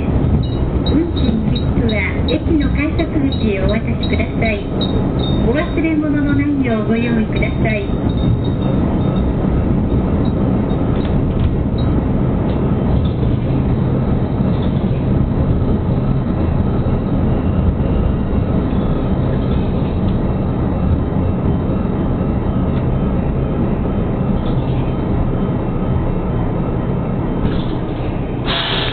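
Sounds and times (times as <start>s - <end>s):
train engine rumble: 0.0s - 28.9s
train wheel noise: 0.0s - 28.9s.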